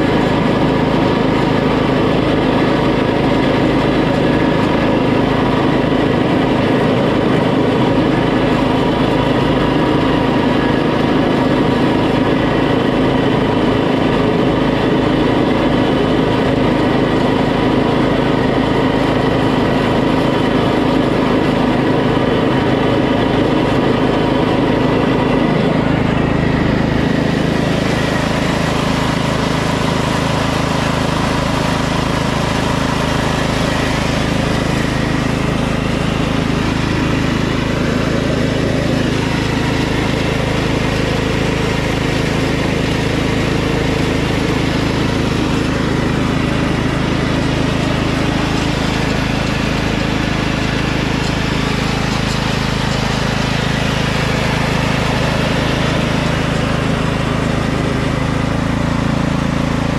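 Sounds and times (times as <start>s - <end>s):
lawn tractor engine running: 0.0s - 59.9s.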